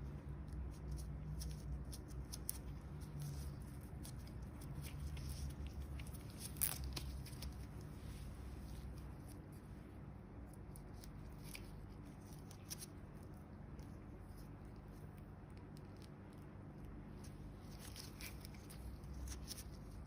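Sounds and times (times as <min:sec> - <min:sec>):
steady low hum: 0:00.0 - 0:20.0
dry skin crackling and tearing: 0:00.1 - 0:20.0.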